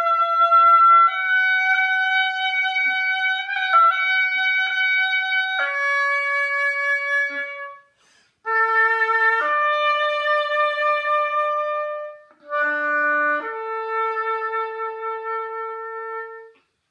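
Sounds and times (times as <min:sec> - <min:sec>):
oboe playing slow notes: 0:00.0 - 0:07.9, 0:08.5 - 0:16.6.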